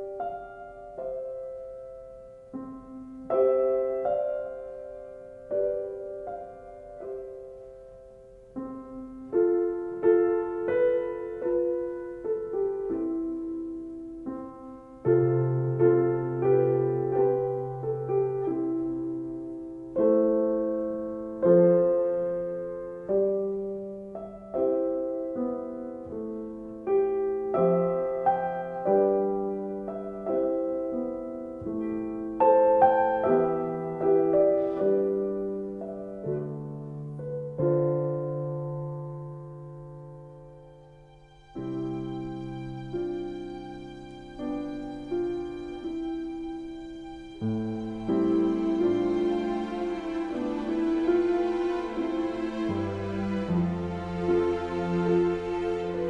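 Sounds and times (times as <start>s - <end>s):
gentle solo piano: 0.0s - 56.0s.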